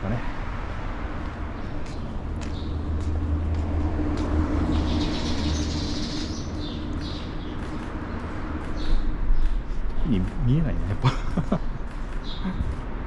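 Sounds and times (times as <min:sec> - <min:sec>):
vehicle passing with low rumble: 0:00.0 - 0:13.0.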